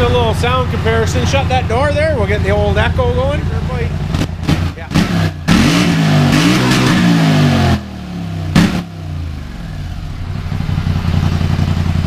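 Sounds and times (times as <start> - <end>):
atv engine revving and idling: 0.0 - 12.0.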